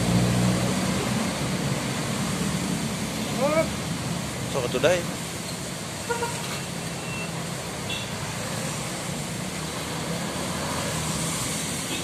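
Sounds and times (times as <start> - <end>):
traffic engine hum: 0.0 - 12.0.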